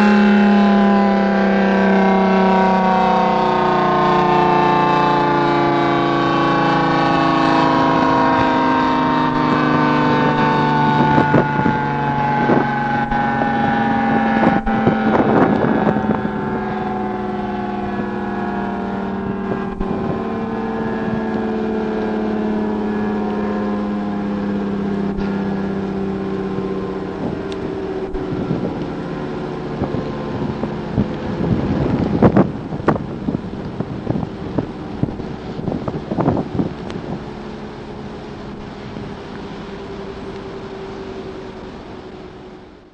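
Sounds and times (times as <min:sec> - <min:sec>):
siren winding down: 0:00.0 - 0:42.9
wind on microphone: 0:00.0 - 0:42.9.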